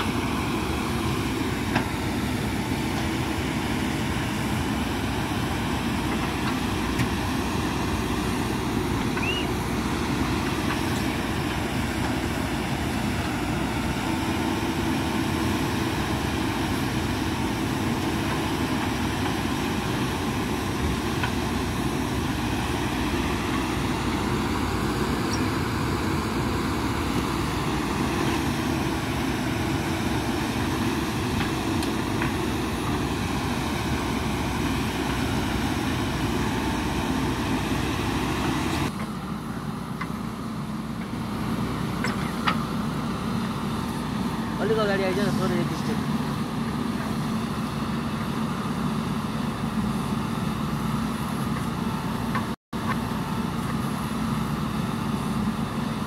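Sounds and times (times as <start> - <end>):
diesel engines running under load: 0.0 - 56.0.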